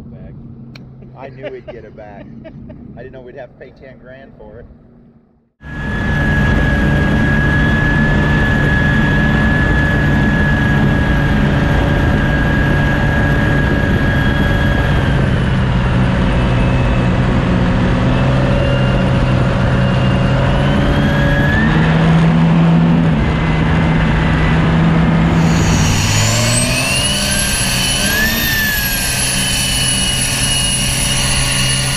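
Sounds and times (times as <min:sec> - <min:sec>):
boat diesel engine running hard: 0:05.6 - 0:31.9
high turbo whistle: 0:05.6 - 0:31.9.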